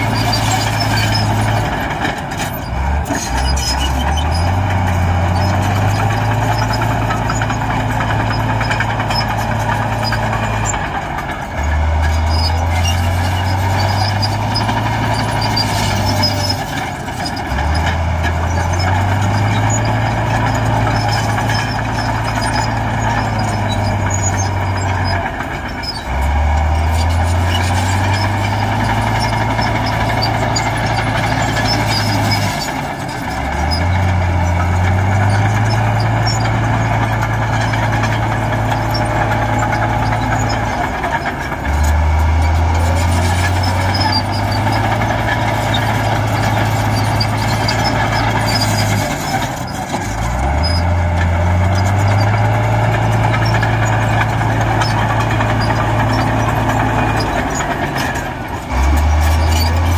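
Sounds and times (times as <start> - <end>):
heavy diesel machine engine: 0.0 - 59.9.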